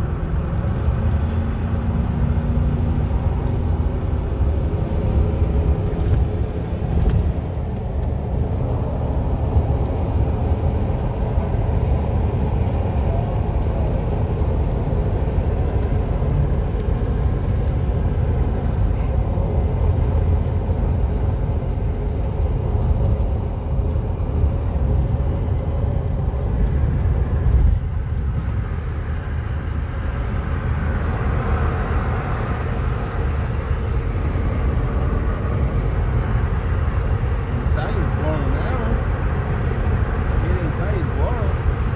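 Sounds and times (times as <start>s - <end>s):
road rumble inside vehicle: 0.0s - 41.9s.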